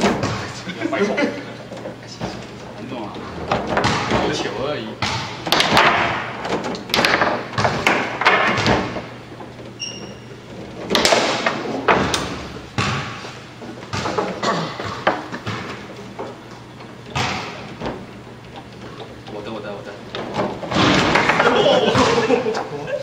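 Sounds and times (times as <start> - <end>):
foosball ball and men knocking: 0.0 - 22.8
foosball rods clacking: 0.0 - 22.8.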